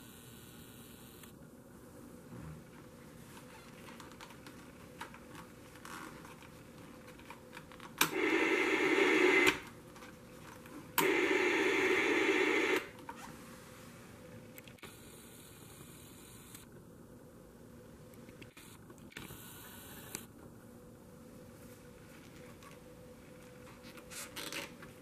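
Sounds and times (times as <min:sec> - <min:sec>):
static hiss from speaker: 0:00.0 - 0:25.0.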